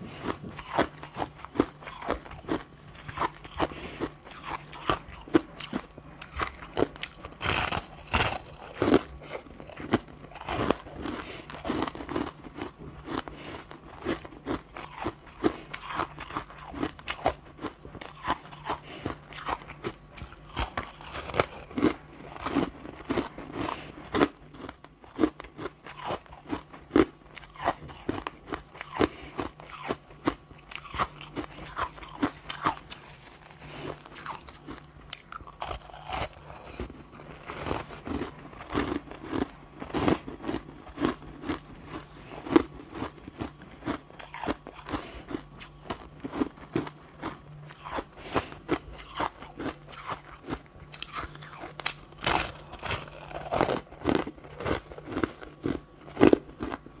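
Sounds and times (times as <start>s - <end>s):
crushed ice being chewed: 0.0s - 57.0s.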